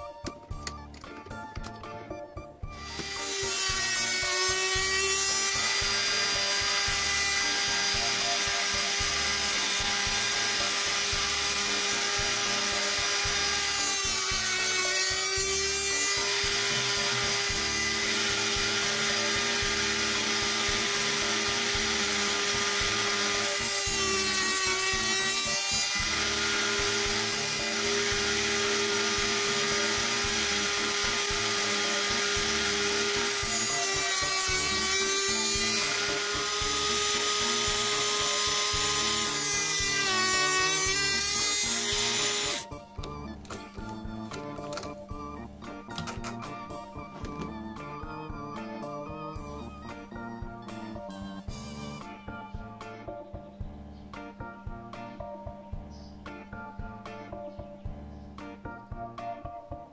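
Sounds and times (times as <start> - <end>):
spindle motor whining: 2.6 - 52.4.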